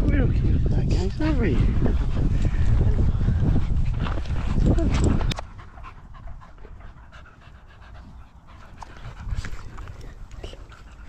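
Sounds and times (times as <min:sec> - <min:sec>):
wind rumbling on microphone: 0:00.0 - 0:11.0
dog panting: 0:01.1 - 0:11.0.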